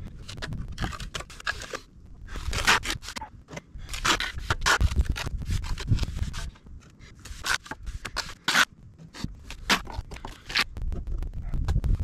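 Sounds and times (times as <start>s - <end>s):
trowel scraping cement on wall: 0.1s - 10.7s.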